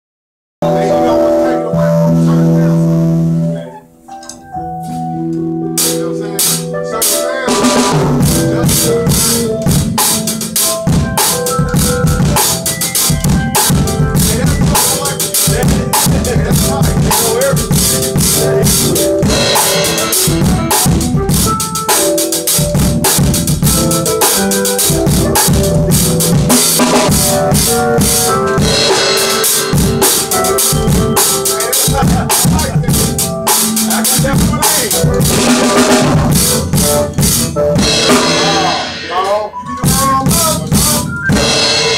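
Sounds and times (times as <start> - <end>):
band instruments playing notes: 0.6 - 41.9
drum kit groove: 0.6 - 41.9.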